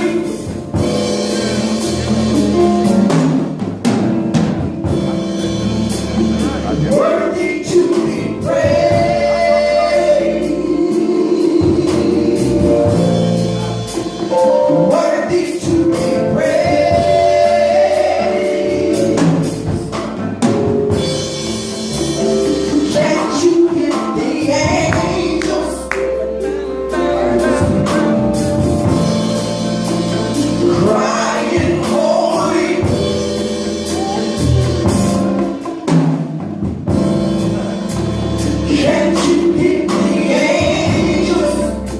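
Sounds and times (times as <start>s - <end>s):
choir singing: 0.0s - 2.4s, 6.6s - 20.3s, 21.4s - 41.9s
band playing: 0.0s - 41.9s
drums beating: 0.0s - 41.9s.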